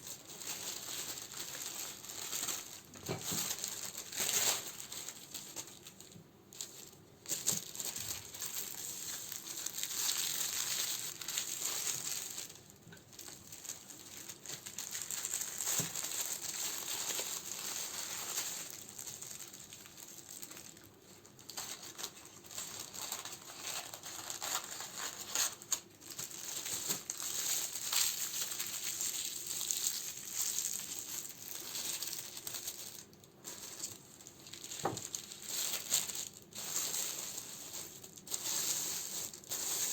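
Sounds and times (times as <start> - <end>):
plastic and paper crinkling: 0.0 - 39.9.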